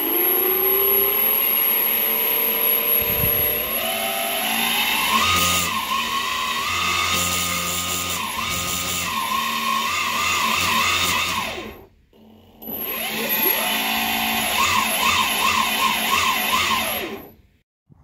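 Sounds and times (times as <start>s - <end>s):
electric motors whining: 0.0s - 17.4s.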